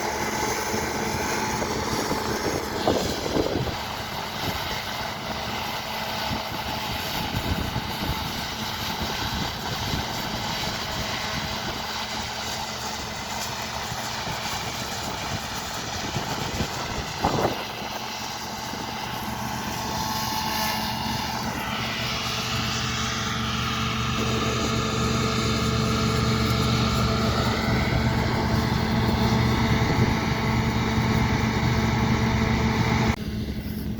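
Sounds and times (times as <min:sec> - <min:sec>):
combine harvester running: 0:00.0 - 0:33.9
high machine whine: 0:00.0 - 0:33.9.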